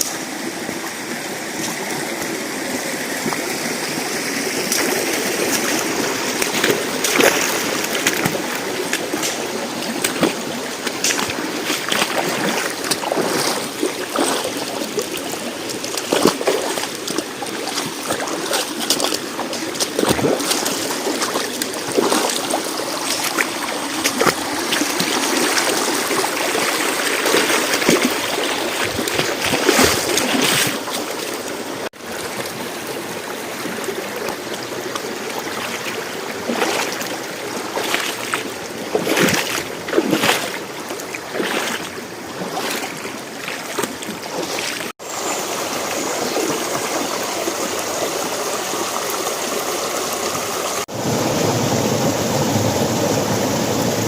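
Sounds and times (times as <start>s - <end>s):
creek running over rocks: 0.0s - 54.0s.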